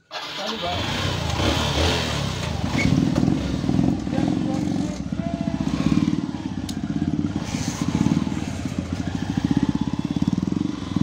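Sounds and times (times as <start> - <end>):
motorcycle engine with loud exhaust: 0.1 - 11.0.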